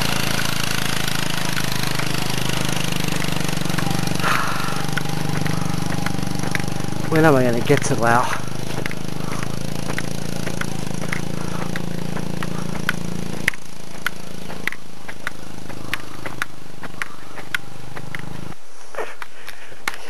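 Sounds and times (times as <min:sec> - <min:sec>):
footsteps on dirt road: 0:00.0 - 0:20.0
motorcycle engine running: 0:00.0 - 0:20.0.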